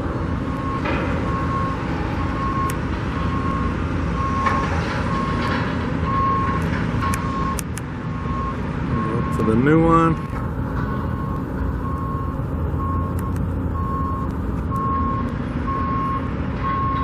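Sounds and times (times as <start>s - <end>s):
engine and traffic rumble: 0.0s - 17.0s
reversing alarm beeping: 0.4s - 7.6s, 8.2s - 17.0s.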